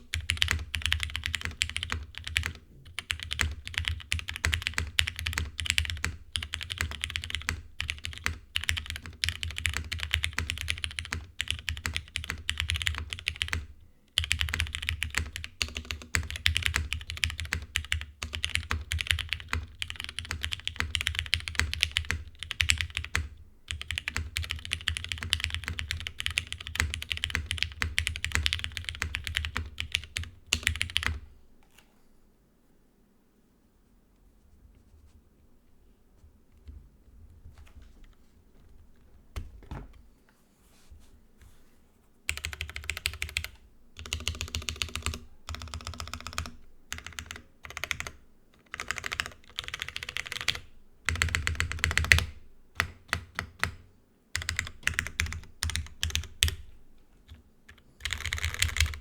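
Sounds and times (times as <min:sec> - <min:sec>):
fast typing on mechanical keyboard: 0:00.0 - 0:31.2, 0:42.3 - 0:53.8, 0:54.4 - 0:59.0.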